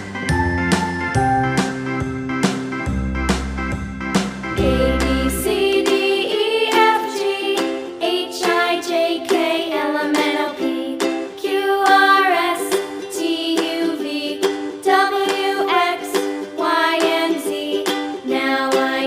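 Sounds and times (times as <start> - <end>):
ukulele children's tune with singing: 0.0 - 19.0.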